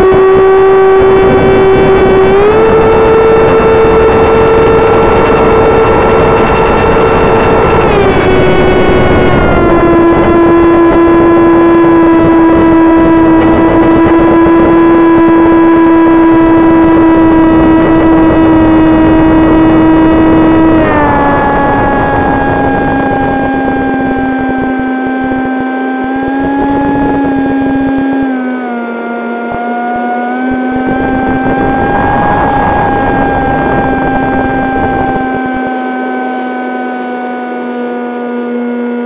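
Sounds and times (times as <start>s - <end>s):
electric motor and propeller whining: 0.0s - 39.0s
wind rushing over microphone: 0.0s - 39.0s.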